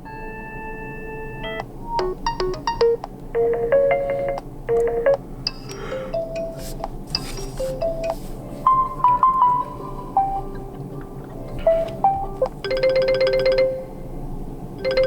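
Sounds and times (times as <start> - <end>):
phone ringtone melody: 0.4 - 14.2, 14.8 - 15.0.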